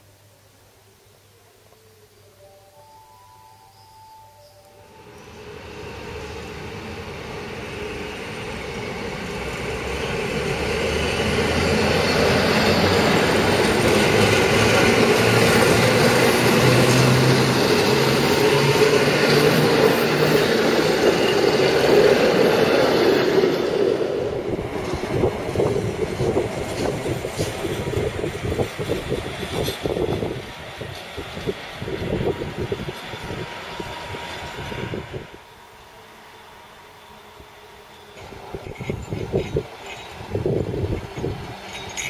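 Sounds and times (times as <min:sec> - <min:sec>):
train rail rumble: 0:04.8 - 0:42.0.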